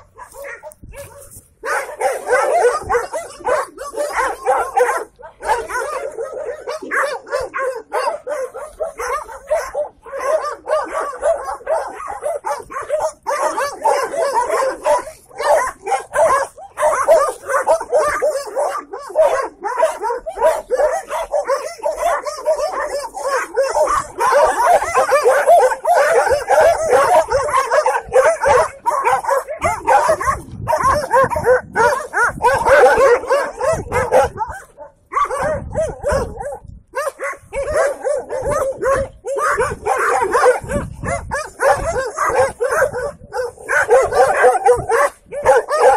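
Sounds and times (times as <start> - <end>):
dogs barking and yelping: 0.0 - 45.9.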